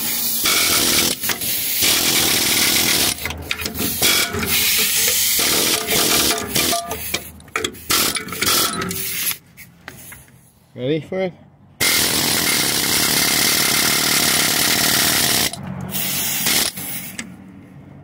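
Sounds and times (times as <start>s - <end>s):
pneumatic air hammer rattling: 0.0s - 10.3s, 11.8s - 17.4s.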